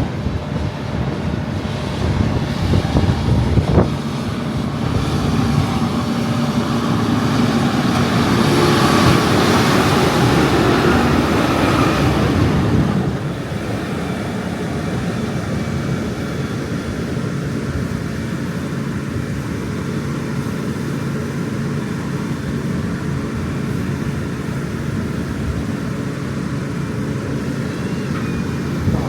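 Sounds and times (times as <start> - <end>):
diesel engine droning under load: 0.0 - 29.0.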